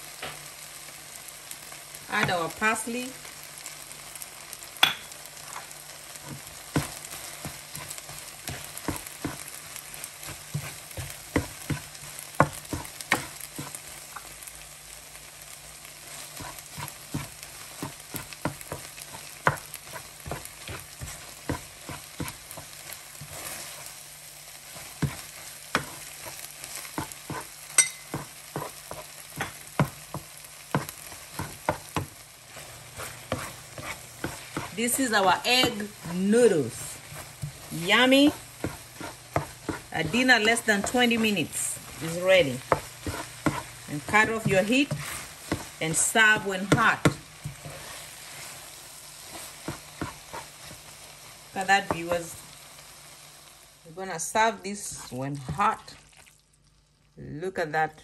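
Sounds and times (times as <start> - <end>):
food sizzling softly: 0.0 - 58.0
spoon scraping a skillet: 4.4 - 14.4, 15.9 - 52.5, 54.7 - 56.3.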